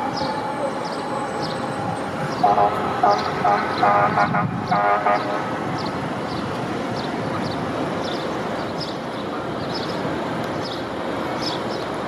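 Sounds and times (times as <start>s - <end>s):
city street noise: 0.0s - 12.0s.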